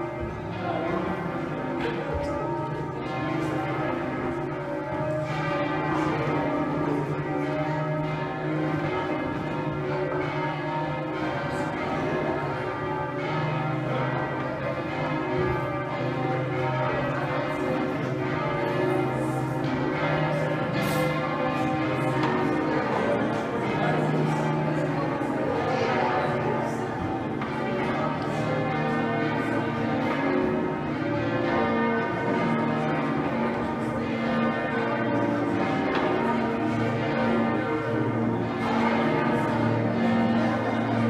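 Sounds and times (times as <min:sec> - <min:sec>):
church bells change ringing: 0:00.0 - 0:41.0.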